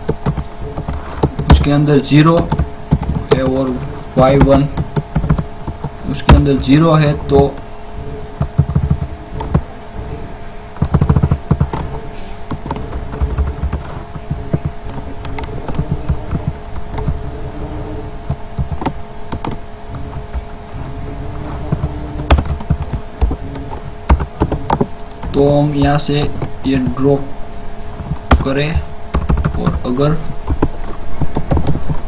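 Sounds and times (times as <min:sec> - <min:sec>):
keyboard typing: 0:00.0 - 0:27.3, 0:27.9 - 0:32.0
faint electrical hum: 0:00.0 - 0:32.0.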